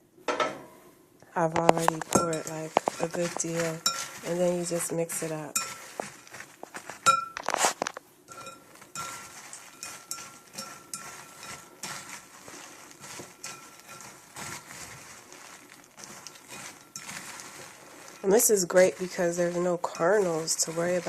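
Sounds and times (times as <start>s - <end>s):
rustle of cereal puffs: 1.6s - 21.0s
utensil clinking on ceramic bowl: 1.7s - 7.6s, 8.3s - 21.0s.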